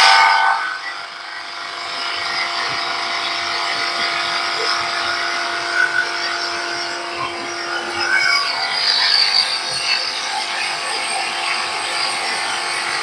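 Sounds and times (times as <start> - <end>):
drum sander running: 0.0 - 13.0.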